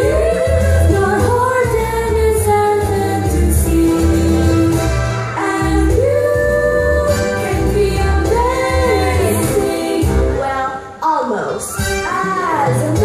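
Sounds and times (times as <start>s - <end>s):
woman singing: 0.0s - 4.8s, 5.4s - 13.0s
instrumental accompaniment: 0.0s - 11.0s.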